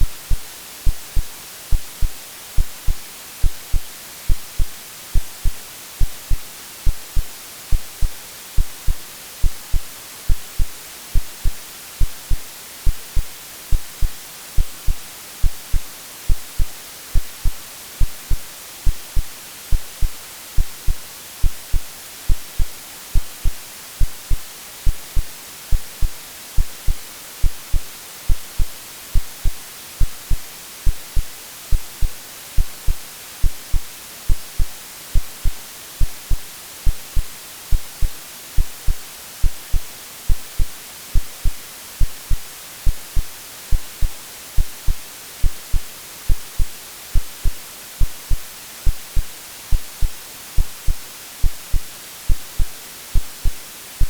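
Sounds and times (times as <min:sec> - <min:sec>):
heartbeat thumps: 0:00.0 - 0:53.6
white noise hiss: 0:00.0 - 0:54.0.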